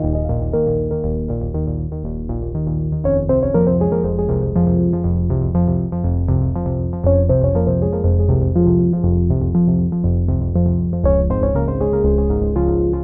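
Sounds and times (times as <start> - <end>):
synthesizer and keyboard music: 0.0 - 13.0.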